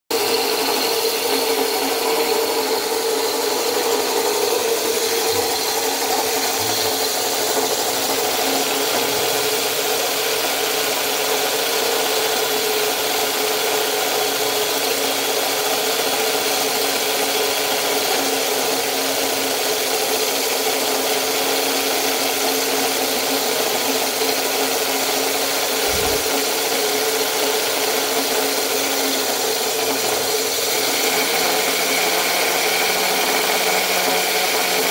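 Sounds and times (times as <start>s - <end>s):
drill bit grinding stone: 0.1s - 34.9s
electric drill motor whine: 0.1s - 34.9s.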